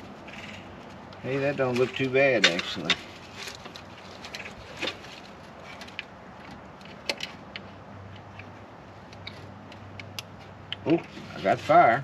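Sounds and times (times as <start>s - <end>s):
light clicks and taps on engine: 0.3s - 11.2s.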